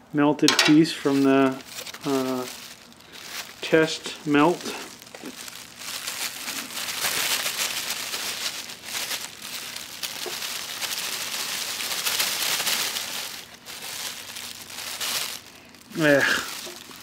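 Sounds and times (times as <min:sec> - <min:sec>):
plastic bag crinkling: 0:00.7 - 0:17.0
plastic scraps crackling into can: 0:00.7 - 0:17.0.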